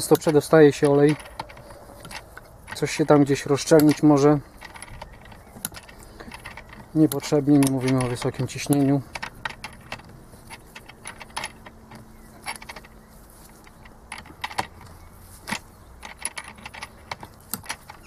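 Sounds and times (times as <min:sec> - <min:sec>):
metal tools clinking: 0:00.0 - 0:18.0.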